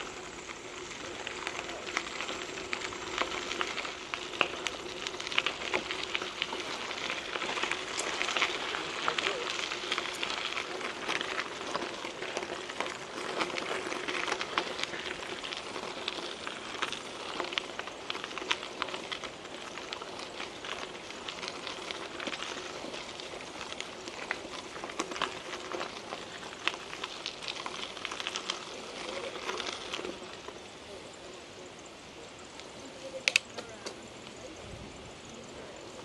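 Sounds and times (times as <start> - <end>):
loose stones clicking and popping: 0.0 - 30.7
bike tyres crunching on gravel: 0.0 - 36.0.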